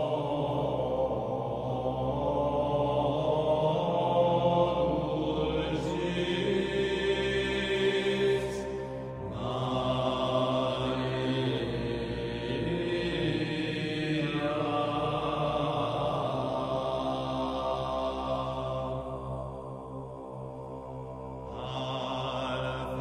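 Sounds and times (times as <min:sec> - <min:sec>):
droning chant-like music: 0:00.0 - 0:23.0.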